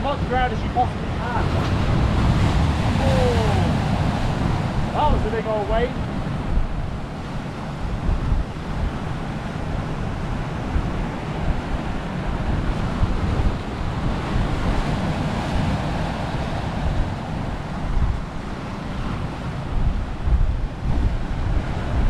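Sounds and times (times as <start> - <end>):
waves breaking over rocks: 0.0 - 22.0
wind buffeting microphone: 0.0 - 22.0.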